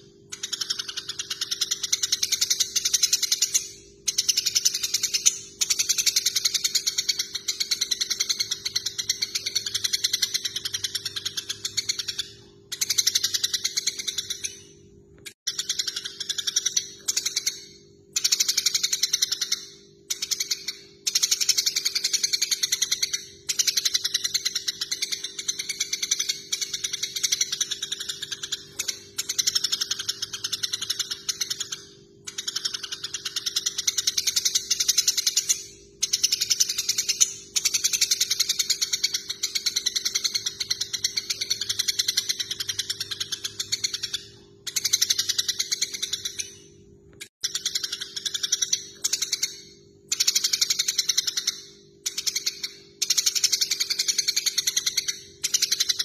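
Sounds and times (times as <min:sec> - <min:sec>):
sparrows chattering: 0:00.0 - 0:14.8, 0:18.2 - 0:46.7, 0:47.4 - 0:56.0.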